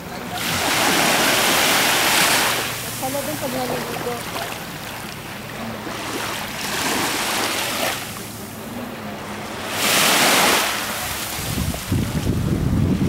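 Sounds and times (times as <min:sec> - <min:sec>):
small waves washing on beach: 0:00.0 - 0:13.0.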